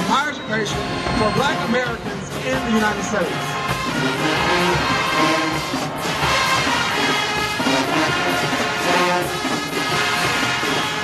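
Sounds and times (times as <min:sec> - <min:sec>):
marching band playing loudly: 0:00.0 - 0:11.0
trombones and trumpets sustaining chords: 0:00.0 - 0:11.0.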